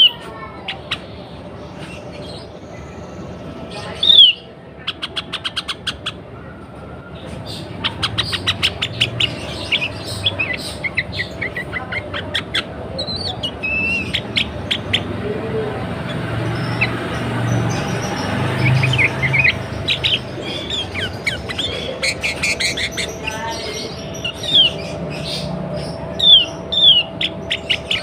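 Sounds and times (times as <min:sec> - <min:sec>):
bird chirping: 0:00.0 - 0:06.3, 0:07.1 - 0:28.0.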